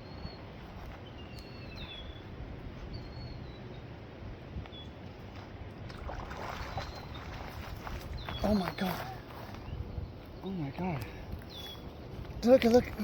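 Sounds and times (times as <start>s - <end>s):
small birds chirping: 0.0s - 5.4s, 6.6s - 13.0s.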